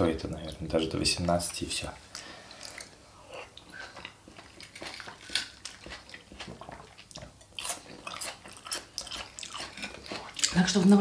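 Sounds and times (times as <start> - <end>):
chewing crunchy vegetables: 1.2 - 11.0.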